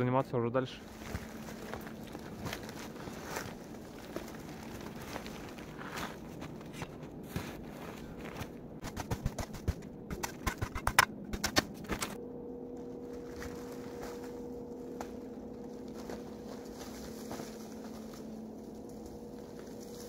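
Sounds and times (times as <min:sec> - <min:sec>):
steady two-tone hum: 0:00.0 - 0:20.0.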